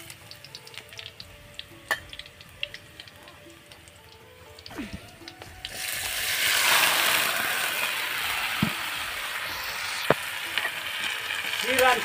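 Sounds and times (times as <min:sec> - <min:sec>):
rice sizzling in a hot wok: 0:00.0 - 0:12.0.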